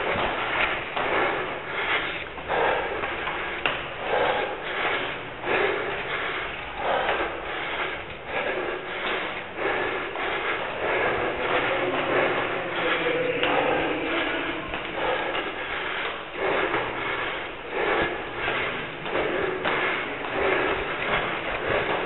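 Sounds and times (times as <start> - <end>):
hard rhythmic breathing: 0.0 - 22.0.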